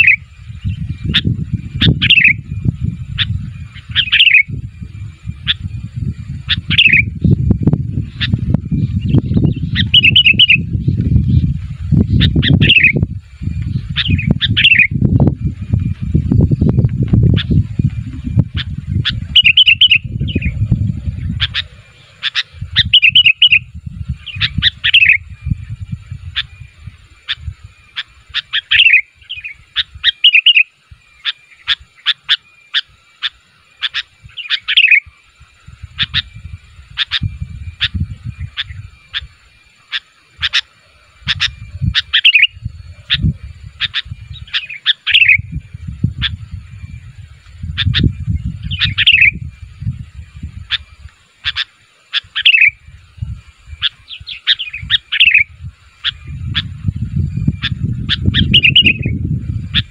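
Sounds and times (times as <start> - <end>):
bird chirping and warbling: 0.0 - 59.9.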